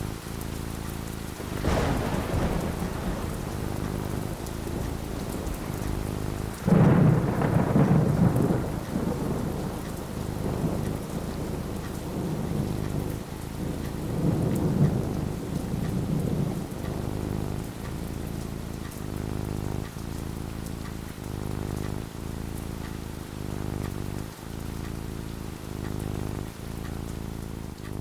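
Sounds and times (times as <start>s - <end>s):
steady rain: 0.0s - 28.0s
thunder clap and rumble: 0.0s - 28.0s.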